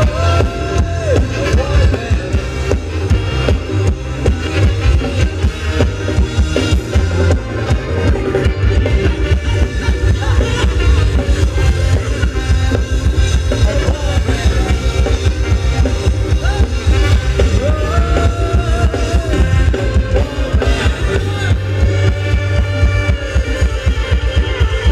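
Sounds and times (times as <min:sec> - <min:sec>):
dance band music: 0:00.0 - 0:24.9
drum kit: 0:00.0 - 0:24.9
heavy bass beat: 0:00.0 - 0:24.9.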